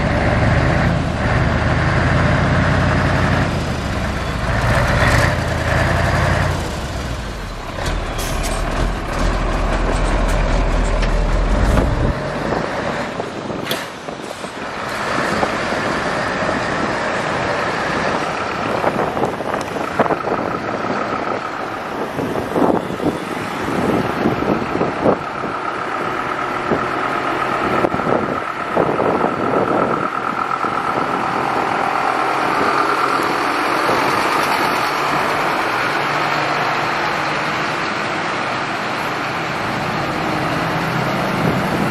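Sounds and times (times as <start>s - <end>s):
truck engine rumbling: 0.0s - 41.9s.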